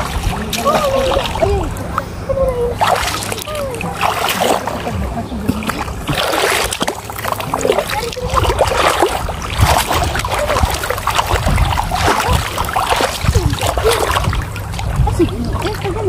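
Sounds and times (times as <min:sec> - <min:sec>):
people wading through water: 0:00.0 - 0:16.0.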